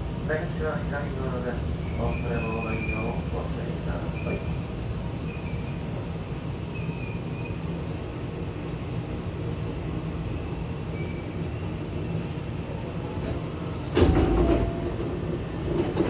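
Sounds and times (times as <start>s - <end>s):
low rumble inside train car: 0.0s - 16.0s
train doors sliding open: 1.8s - 16.0s.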